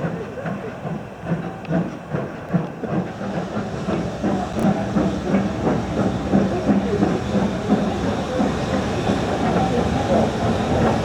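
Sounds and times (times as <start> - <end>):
steam train clattering: 0.0 - 11.0.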